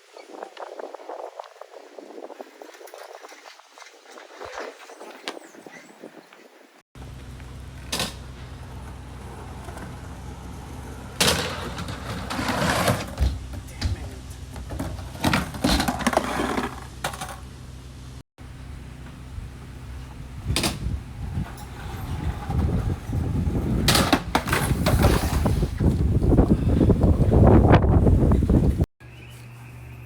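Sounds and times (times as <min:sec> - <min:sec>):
skateboard rolling on concrete: 0:00.2 - 0:28.8.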